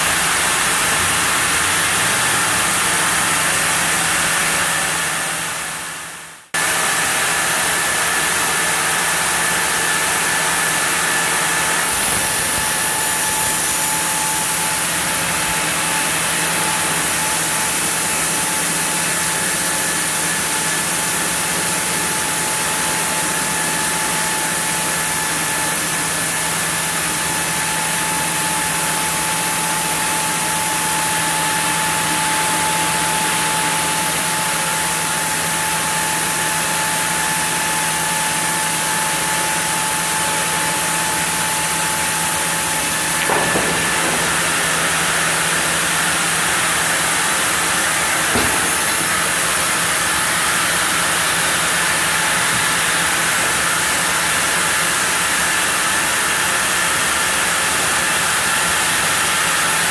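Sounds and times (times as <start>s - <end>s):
sawmill saw whining: 0.0s - 59.9s.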